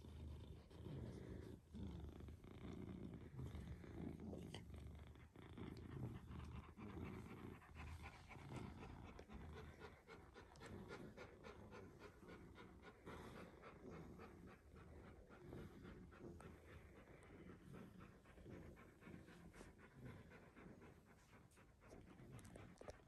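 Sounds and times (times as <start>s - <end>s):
dog panting softly: 0.0s - 23.0s.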